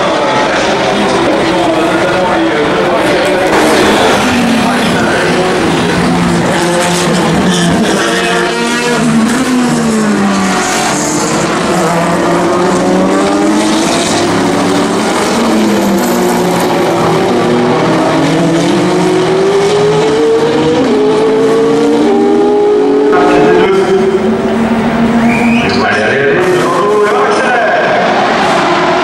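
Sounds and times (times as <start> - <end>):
racing car engines accelerating: 0.0 - 29.0.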